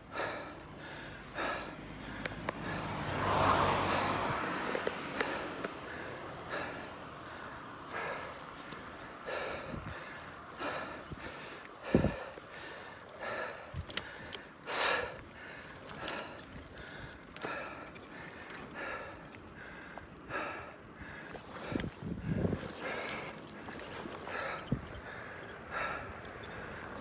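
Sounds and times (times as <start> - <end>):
person breathing hard: 0.0 - 23.4, 24.2 - 27.0.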